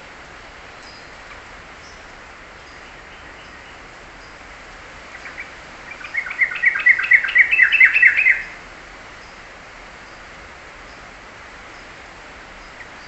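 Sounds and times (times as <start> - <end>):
songbird chirping: 0.6 - 13.0.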